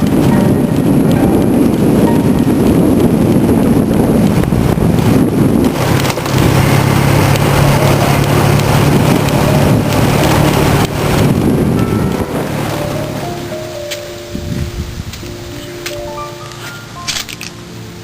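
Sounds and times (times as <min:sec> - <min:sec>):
wind buffeting microphone: 0:00.0 - 0:17.0
waterfall rushing: 0:00.0 - 0:18.0.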